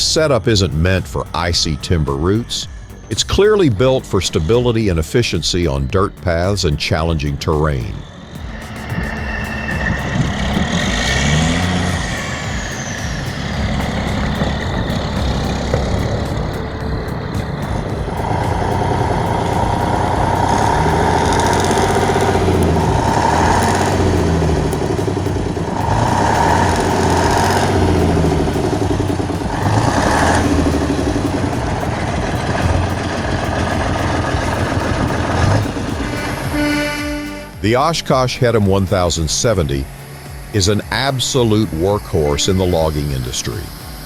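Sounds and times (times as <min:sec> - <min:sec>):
truck diesel engine revving: 0:00.0 - 0:44.0.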